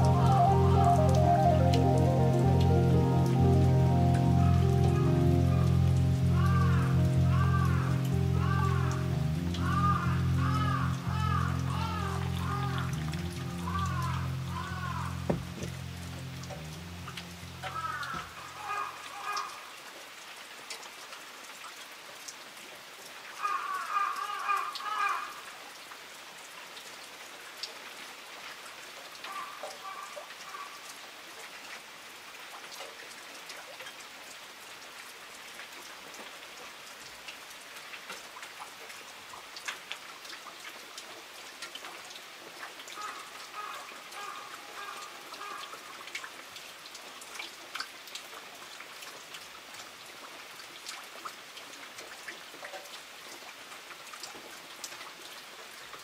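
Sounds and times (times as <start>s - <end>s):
raindrops ticking on surfaces: 0.0s - 56.0s
steady rain falling: 0.0s - 56.0s.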